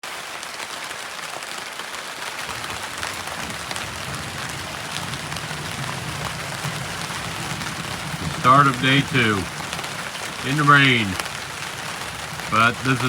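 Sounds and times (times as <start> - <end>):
steady rain patter: 0.0 - 13.0
low rumble: 2.4 - 13.0.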